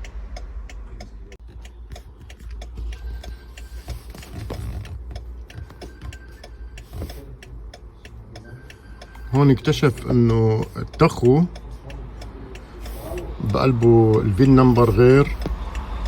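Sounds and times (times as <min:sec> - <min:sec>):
hazard flasher ticking: 0:00.0 - 0:16.0.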